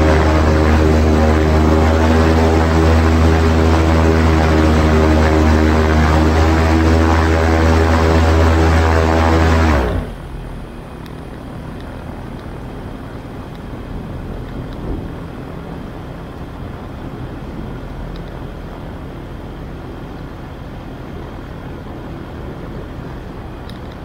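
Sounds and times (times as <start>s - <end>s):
aircraft engine idling: 0.0s - 24.0s.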